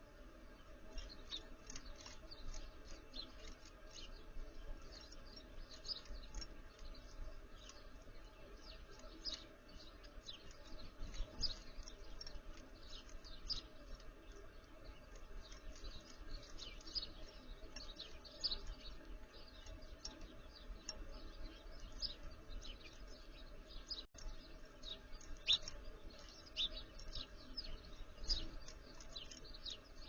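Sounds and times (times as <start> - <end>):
small songbirds chirping: 0.0 - 30.0.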